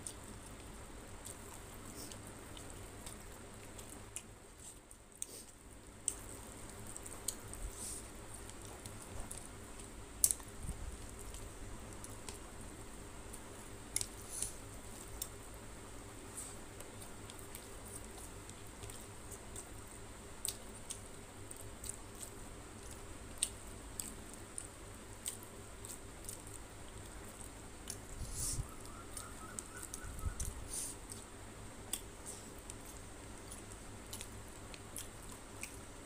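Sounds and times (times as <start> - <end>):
chewing: 0.0 - 12.5, 16.3 - 36.0.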